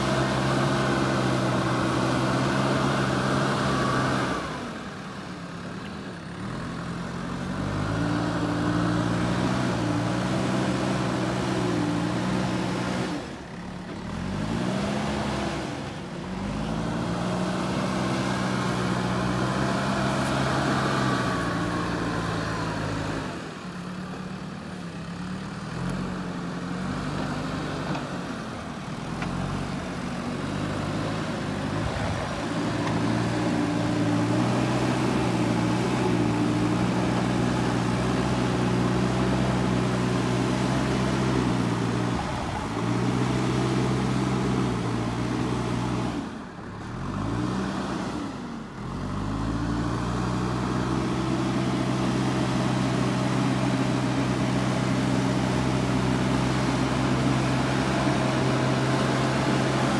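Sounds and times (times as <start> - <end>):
backhoe diesel engine under load: 0.0 - 59.9.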